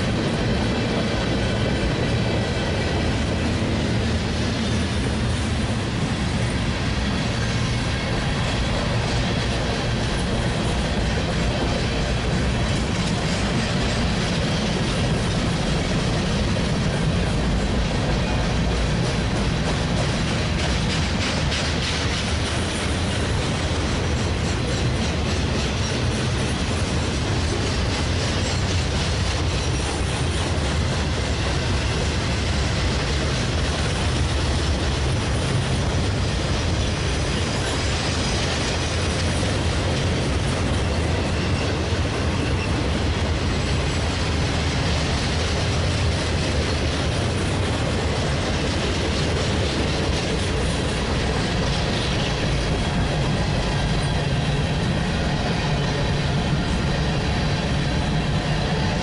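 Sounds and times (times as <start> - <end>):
freight train rolling past: 0.0 - 59.0
steel wheels clattering on rails: 0.0 - 59.0.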